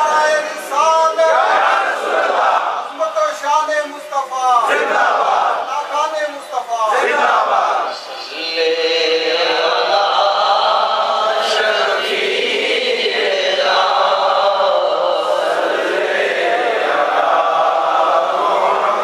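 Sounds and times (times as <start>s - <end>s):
men chanting: 0.0s - 3.2s, 4.5s - 6.1s, 6.8s - 19.0s.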